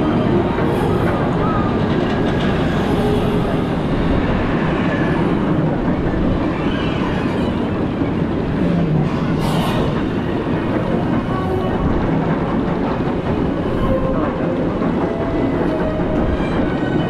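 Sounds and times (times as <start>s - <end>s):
roller coaster lift chain clatter: 0.0s - 17.0s.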